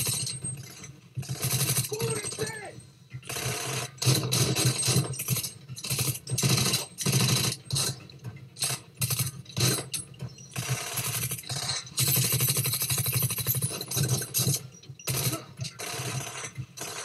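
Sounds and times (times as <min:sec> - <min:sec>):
rapid automatic gunfire bursts: 0:00.0 - 0:02.6, 0:03.3 - 0:08.0, 0:08.6 - 0:09.9, 0:10.6 - 0:17.0.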